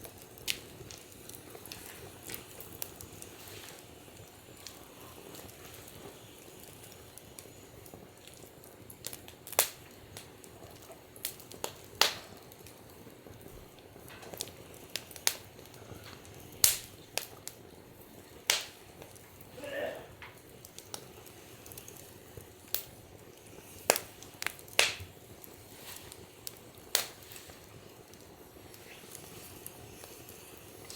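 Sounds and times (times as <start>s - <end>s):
sharp pops of burning wood: 0.0s - 30.9s
wood fire crackling: 0.0s - 30.9s.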